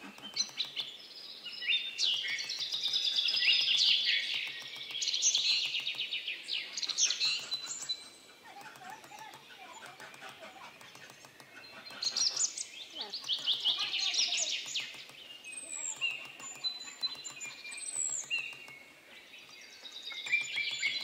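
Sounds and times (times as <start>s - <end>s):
birds chirping and singing: 0.0s - 21.0s.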